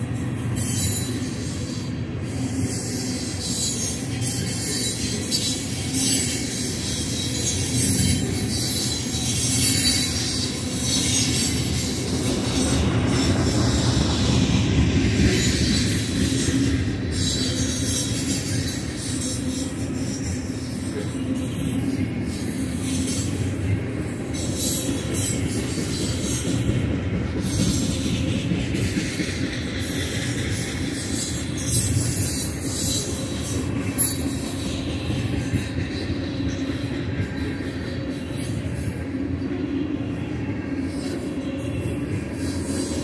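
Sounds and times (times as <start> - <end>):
train wheels rumbling on rail: 0.0 - 43.0
wheel squeal: 0.4 - 39.6.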